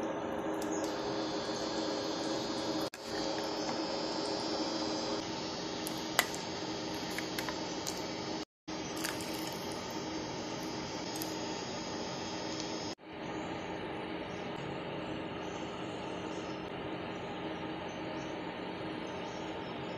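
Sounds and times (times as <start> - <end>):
mechanical hum: 0.0 - 19.9.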